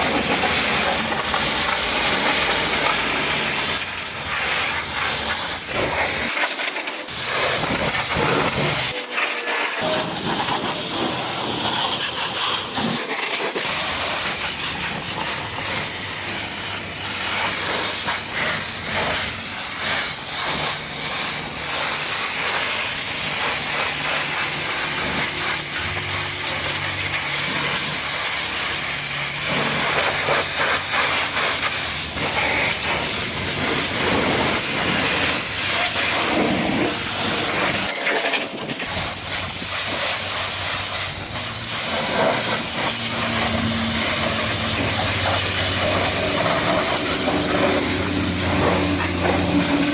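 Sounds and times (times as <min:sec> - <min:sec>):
pressure washer spraying water: 0:00.0 - 0:49.9.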